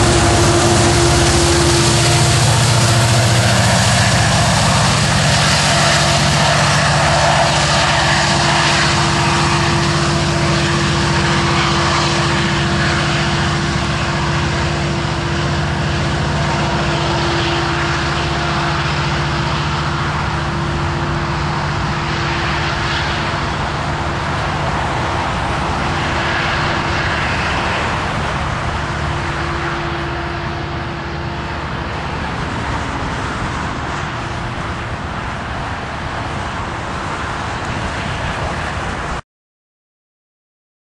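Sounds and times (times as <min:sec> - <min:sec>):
diesel locomotive engine drone: 0:00.0 - 0:39.2.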